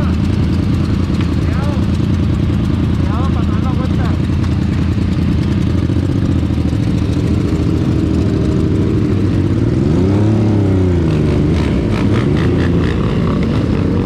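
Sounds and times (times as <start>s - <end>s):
motorcycle engine revving: 0.0s - 14.0s
motorcycle engines running: 0.0s - 14.0s.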